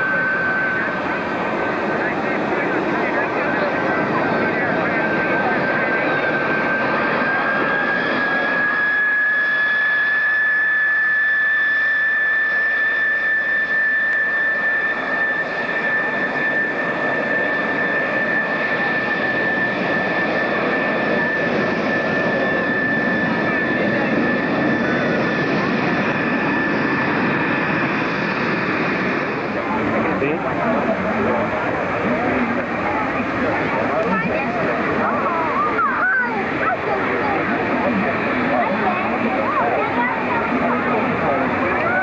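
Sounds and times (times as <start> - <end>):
jet engine whine: 0.0 - 42.0.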